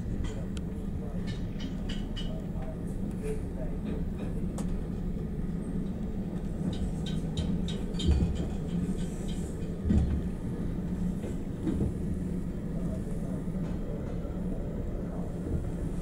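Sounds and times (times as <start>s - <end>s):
train carriage rumbling: 0.0s - 16.0s.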